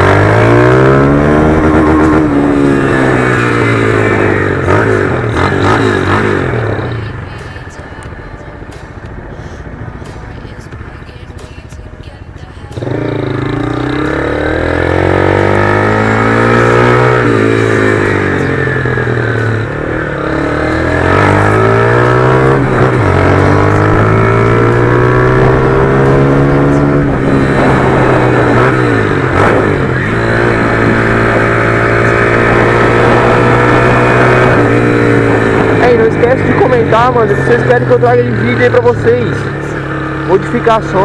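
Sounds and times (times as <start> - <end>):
motorcycle engine accelerating: 0.0 - 7.7, 12.8 - 41.0.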